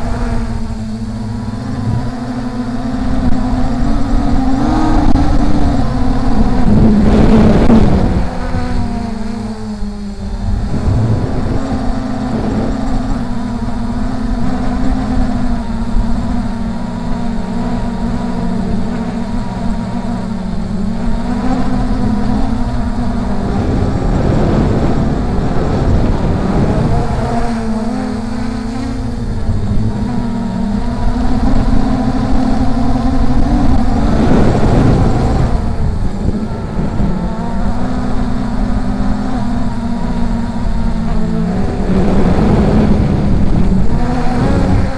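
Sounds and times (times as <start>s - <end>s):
quadcopter motors humming: 0.0s - 44.9s
wind rumble on microphone: 0.0s - 44.9s.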